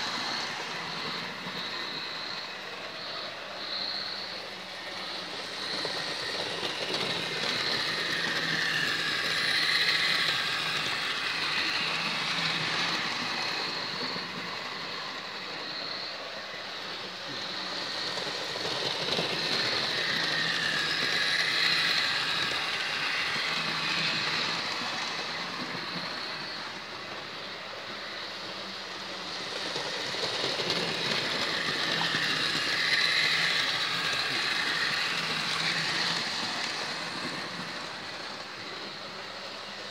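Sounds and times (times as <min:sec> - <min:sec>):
model train motor whir: 0:00.0 - 0:39.9.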